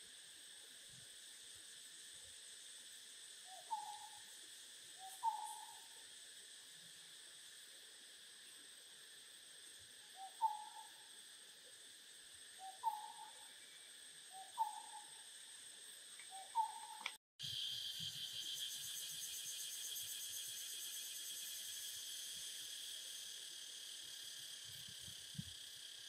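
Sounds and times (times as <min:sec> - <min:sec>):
high insect drone: 0:00.0 - 0:26.0
pulsing insect chorus: 0:00.0 - 0:26.0.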